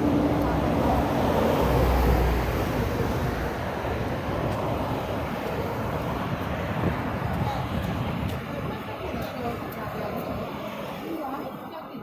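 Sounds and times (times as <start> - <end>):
heavy engine rumble: 0.0 - 10.1
street traffic noise: 0.0 - 12.0.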